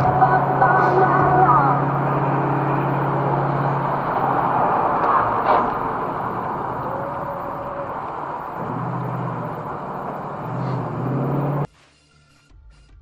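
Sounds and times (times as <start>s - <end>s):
car road and engine noise: 0.0s - 11.7s.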